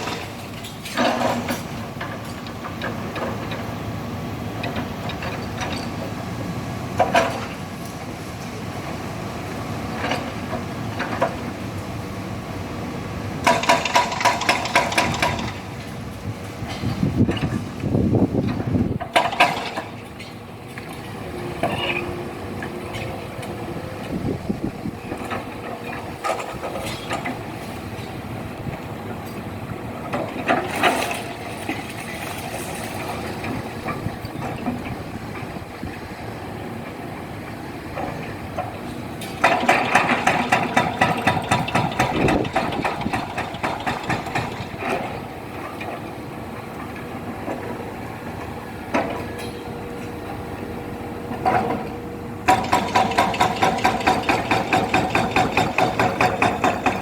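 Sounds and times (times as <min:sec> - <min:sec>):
demolition machinery running: 0:00.0 - 0:57.0.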